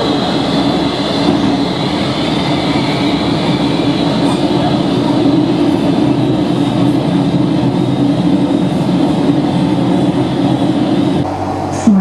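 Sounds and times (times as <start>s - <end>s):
train rumbling in a tunnel: 0.0s - 12.0s.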